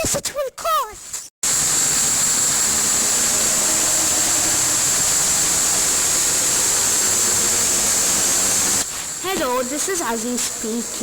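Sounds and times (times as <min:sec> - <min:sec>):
loud static hiss: 0:01.0 - 0:11.0.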